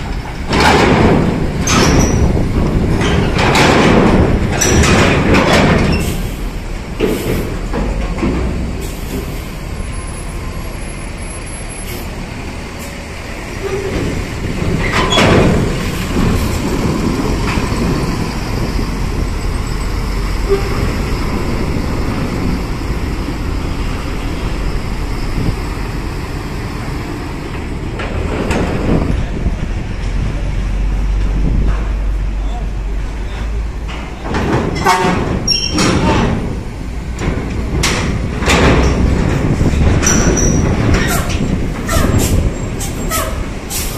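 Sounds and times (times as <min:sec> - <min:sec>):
bus engine rumble: 0:00.0 - 0:43.9.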